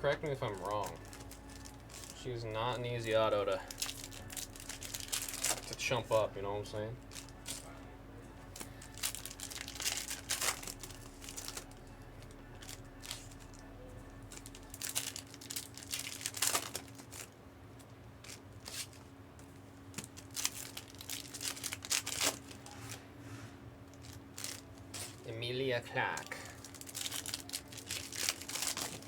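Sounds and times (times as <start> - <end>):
wrappers crinkling and tearing: 0.0 - 7.8, 8.4 - 19.1, 19.8 - 23.0, 23.8 - 29.0.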